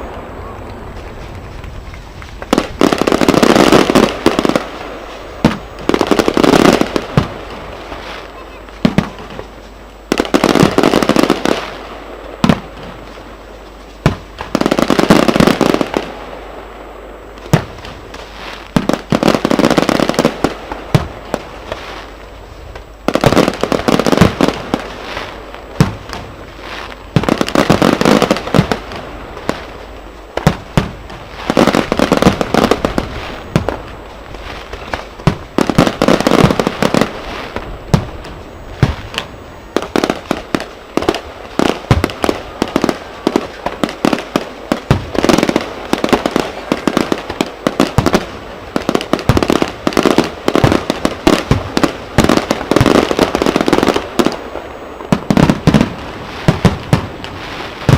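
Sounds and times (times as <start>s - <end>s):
fireworks crackling bangs: 0.0s - 57.9s.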